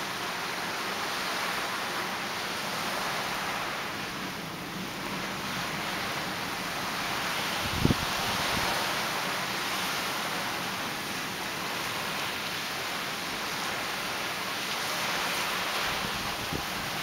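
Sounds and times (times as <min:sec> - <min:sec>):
surf breaking on a reef: 0:00.0 - 0:17.0.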